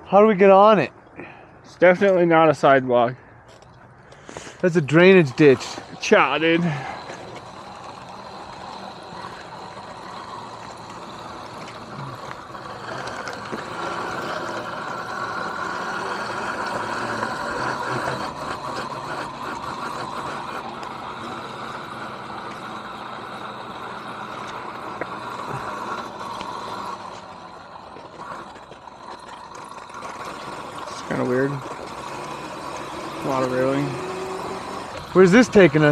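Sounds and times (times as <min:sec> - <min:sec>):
electric dirt bike motor whine: 0:03.6 - 0:35.9.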